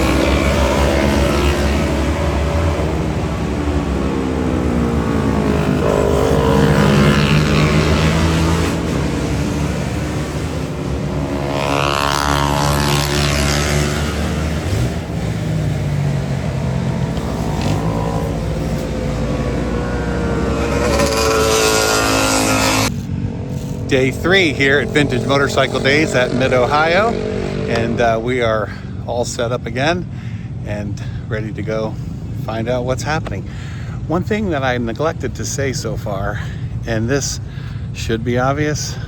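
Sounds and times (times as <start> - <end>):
motorcycles revving and passing: 0.0 - 39.0.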